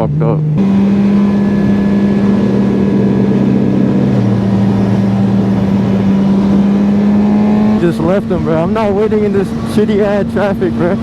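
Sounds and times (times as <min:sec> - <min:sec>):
loud motorcycle engine running: 0:00.0 - 0:11.0.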